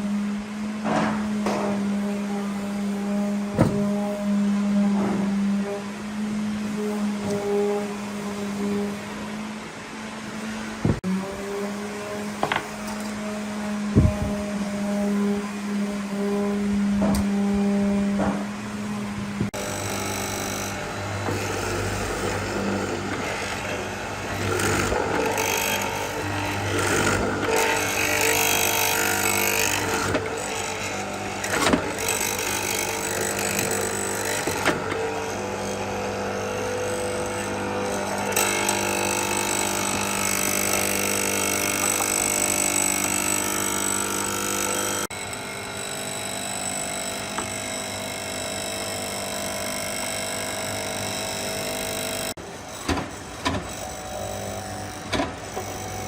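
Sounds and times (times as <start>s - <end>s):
electric power tools running: 0.0s - 56.0s.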